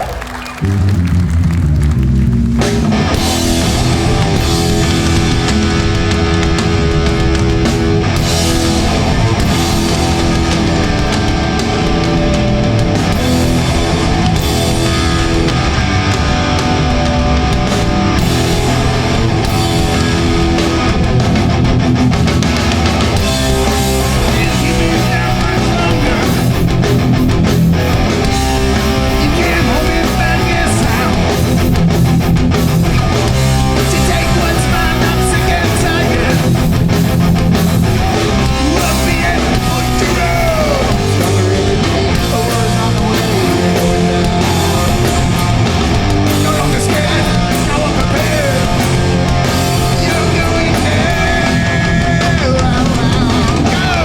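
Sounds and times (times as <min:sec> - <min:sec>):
bass guitar: 0:00.0 - 0:54.0
distorted guitars: 0:00.0 - 0:54.0
punk band playing live: 0:00.0 - 0:54.0
fast drum hits: 0:02.4 - 0:54.0.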